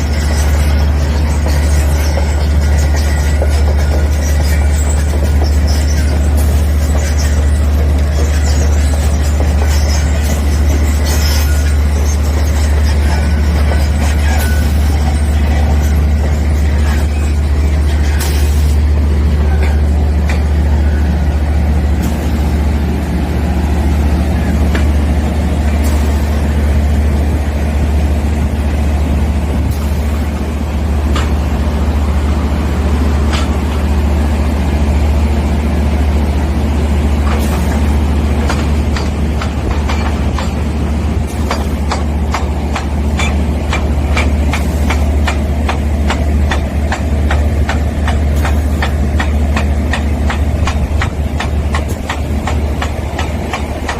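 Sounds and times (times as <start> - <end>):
drilling rig droning: 0.0 - 53.9.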